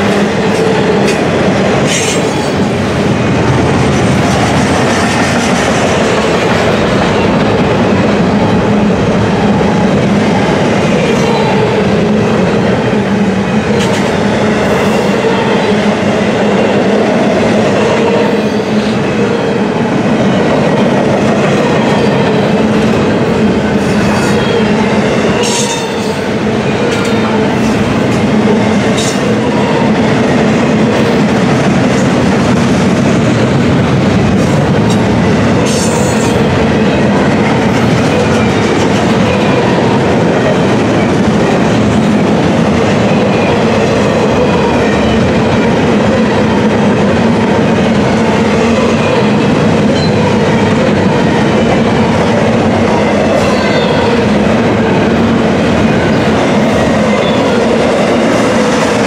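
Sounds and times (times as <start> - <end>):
clickety-clack over rail joints: 0.0 - 12.9, 13.6 - 15.5, 16.1 - 59.0
train wheels rumbling on rail: 0.0 - 59.0.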